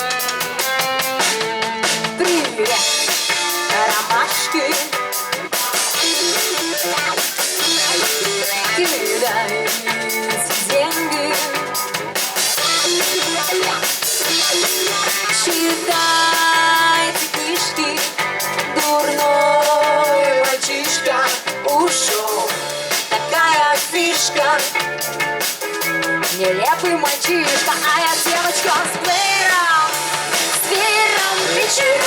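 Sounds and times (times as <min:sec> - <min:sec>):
bass guitar: 0:00.0 - 0:32.0
drum kit beat: 0:00.0 - 0:32.0
electric guitar: 0:00.0 - 0:32.0.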